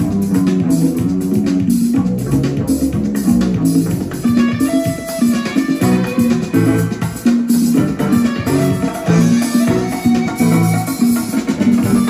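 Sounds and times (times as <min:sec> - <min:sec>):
guitar music with bass: 0:00.0 - 0:12.0.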